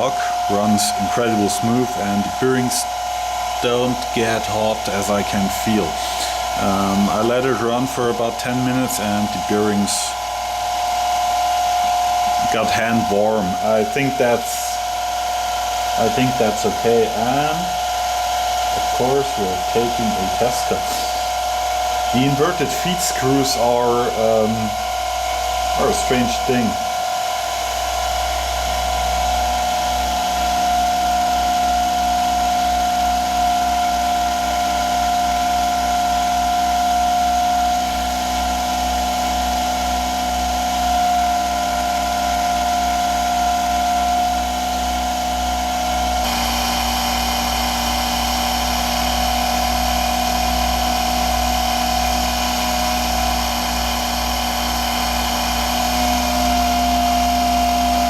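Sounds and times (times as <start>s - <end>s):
electric motor whining and humming: 0.0s - 58.0s.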